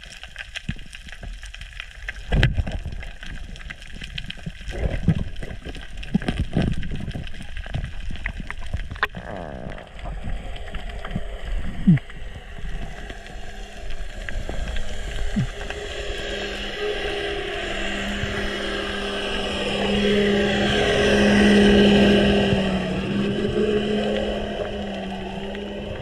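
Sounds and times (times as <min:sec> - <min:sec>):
motorboat engine underwater: 0:00.0 - 0:26.0.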